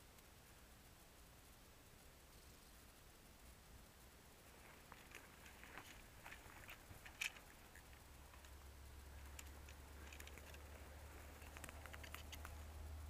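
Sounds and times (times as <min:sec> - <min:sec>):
low hum: 0:00.0 - 0:13.0
rustles of dry brush: 0:02.5 - 0:13.0.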